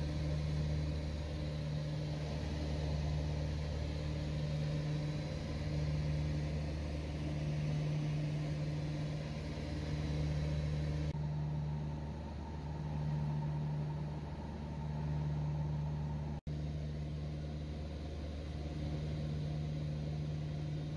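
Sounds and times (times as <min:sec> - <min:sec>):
light aircraft engine and propeller drone: 0:00.0 - 0:20.9.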